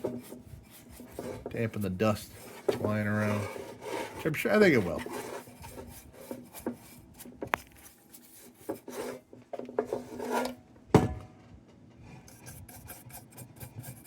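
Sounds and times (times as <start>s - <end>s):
scraping and rubbing on metal: 0.0s - 10.6s, 12.0s - 14.0s.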